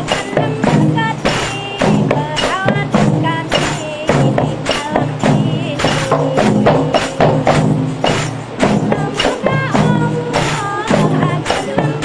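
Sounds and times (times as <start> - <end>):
frame drums playing a beat: 0.0 - 12.0.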